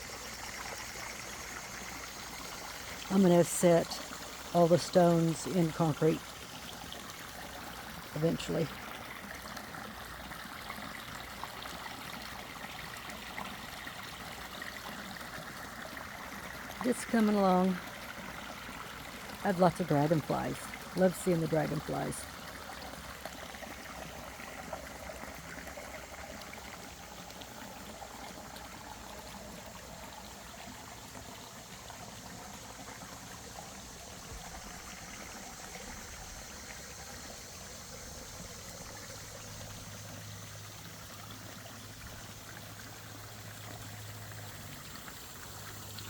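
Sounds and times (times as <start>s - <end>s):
water trickling over stones: 0.0s - 46.0s.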